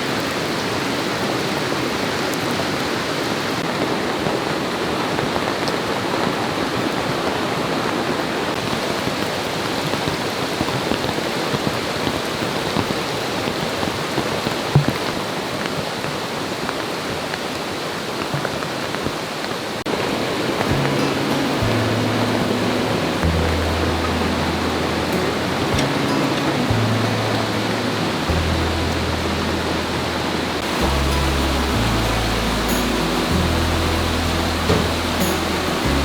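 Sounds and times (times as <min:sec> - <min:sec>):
rain pouring: 0:00.0 - 0:36.0.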